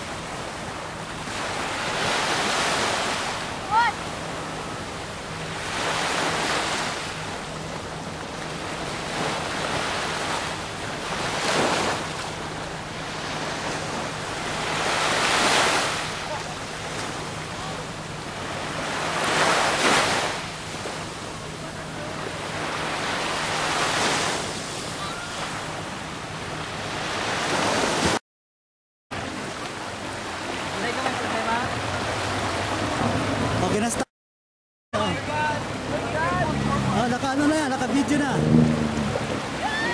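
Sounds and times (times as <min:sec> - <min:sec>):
small waves washing onto shore: 0:00.0 - 0:28.2, 0:29.1 - 0:34.1, 0:35.0 - 0:39.9.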